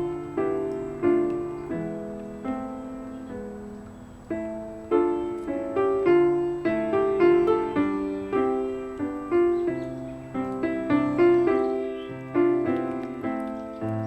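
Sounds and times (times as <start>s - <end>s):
solo piano music: 0.0s - 14.0s.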